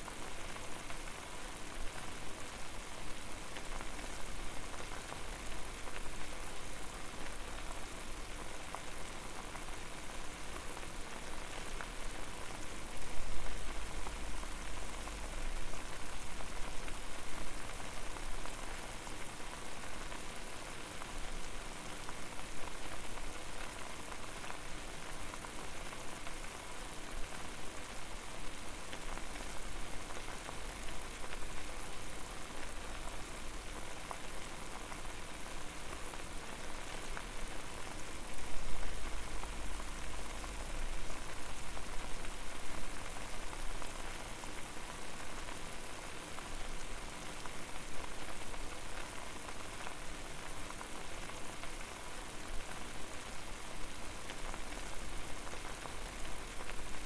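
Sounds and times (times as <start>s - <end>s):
water boiling and bubbling: 0.1s - 57.0s.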